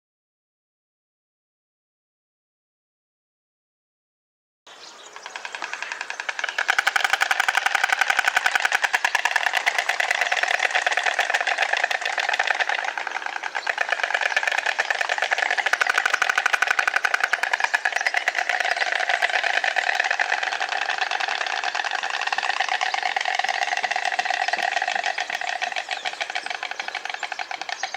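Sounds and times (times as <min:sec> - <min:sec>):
stork bill clattering: 0:05.2 - 0:27.9.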